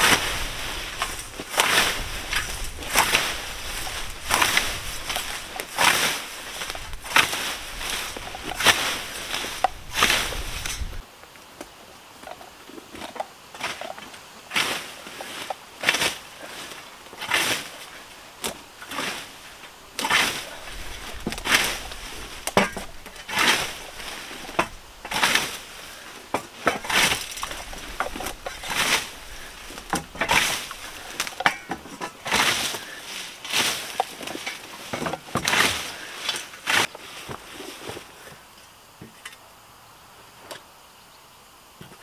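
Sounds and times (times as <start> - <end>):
scythe swishing through grass: 0.0 - 11.0, 14.5 - 38.0.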